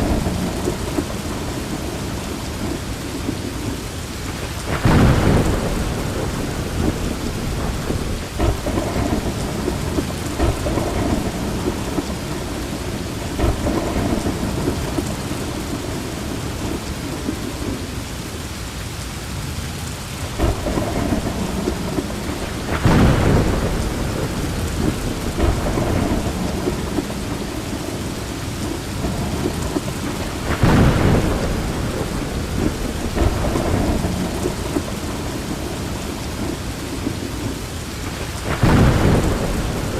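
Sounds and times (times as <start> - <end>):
loud thunderclaps: 0.0 - 17.9, 20.4 - 39.9
thunder rumbling: 0.0 - 18.3, 20.1 - 39.9
heavy rain falling: 0.0 - 39.9.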